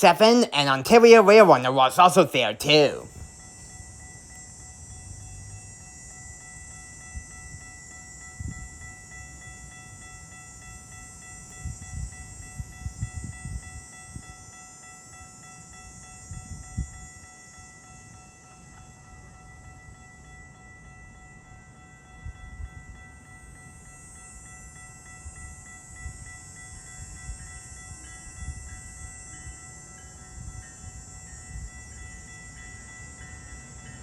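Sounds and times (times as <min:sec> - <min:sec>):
train high whine: 0:00.0 - 0:34.0
train low rumble: 0:00.0 - 0:34.0.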